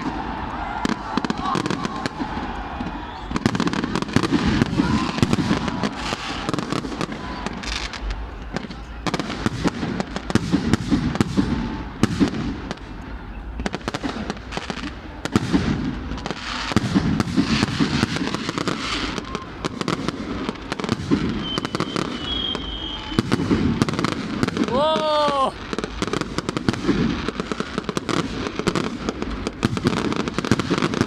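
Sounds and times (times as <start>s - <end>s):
high firework whistle: 0.0s - 26.7s
fireworks cracks and bangs: 0.0s - 31.0s.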